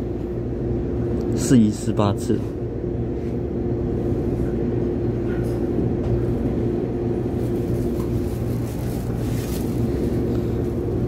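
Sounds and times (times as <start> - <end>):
electric train hum: 0.0 - 11.0.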